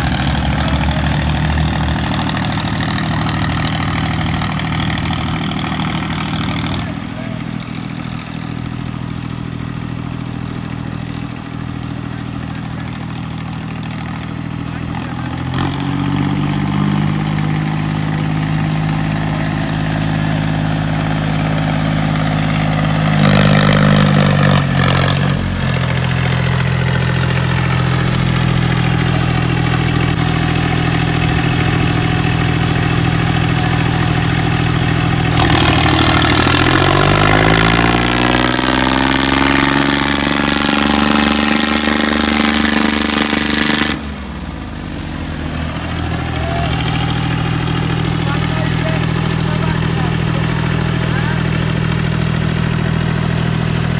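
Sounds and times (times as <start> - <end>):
tractor diesel engine revving: 0.0 - 53.9.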